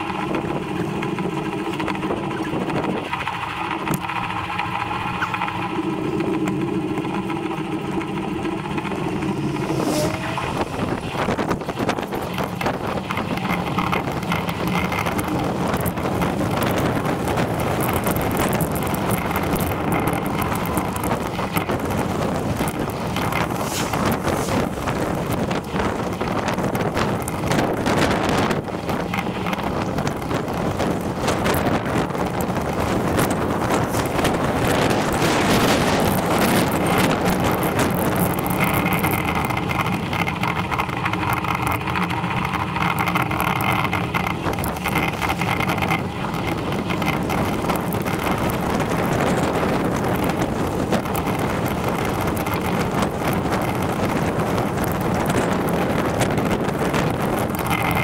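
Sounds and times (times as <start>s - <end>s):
road noise: 0.0s - 58.0s
steady multi-tone hum: 0.0s - 58.0s
wind rushing over microphone: 0.0s - 58.0s.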